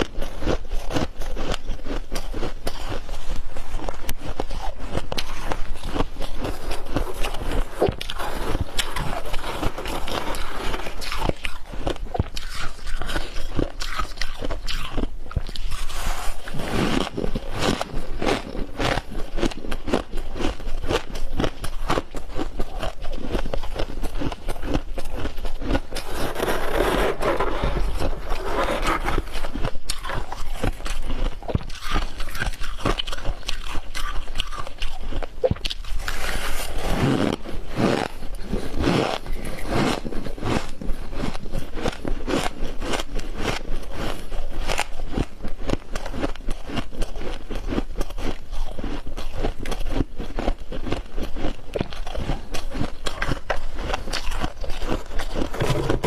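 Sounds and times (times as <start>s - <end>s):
frost crunching while chewed: 0.0s - 56.0s.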